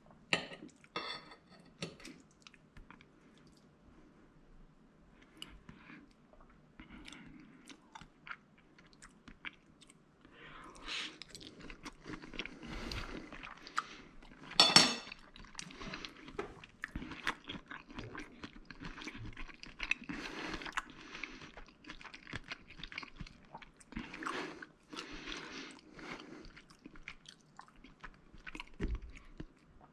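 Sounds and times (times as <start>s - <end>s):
close-up chewing food: 5.2s - 29.9s.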